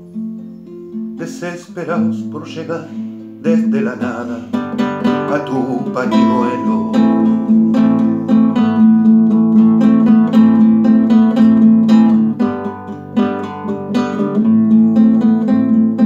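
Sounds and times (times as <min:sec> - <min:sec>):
classical guitar chords: 0:00.0 - 0:16.0.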